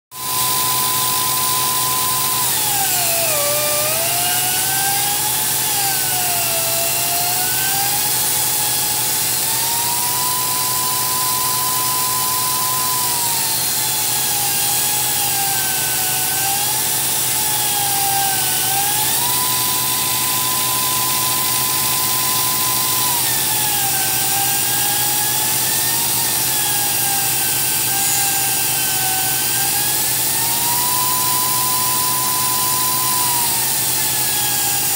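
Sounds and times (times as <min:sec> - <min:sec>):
grinder whining on steel: 0:00.1 - 0:34.9.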